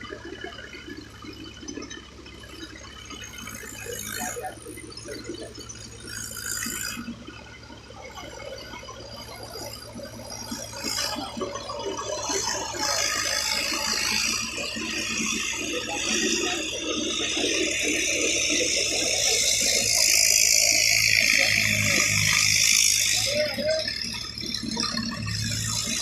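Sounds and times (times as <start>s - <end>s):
tractor diesel engine rattling: 0.0s - 26.0s.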